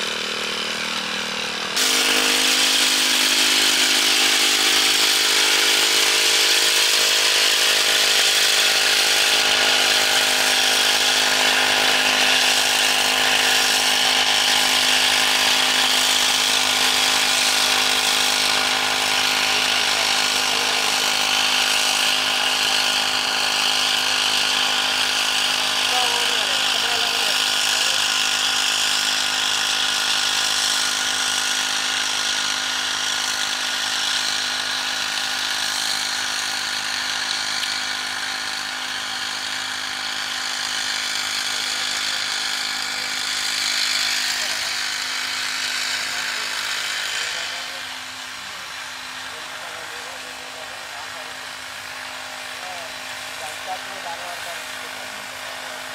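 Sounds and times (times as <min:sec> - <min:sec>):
small two-stroke engine buzzing: 0:00.0 - 0:55.9.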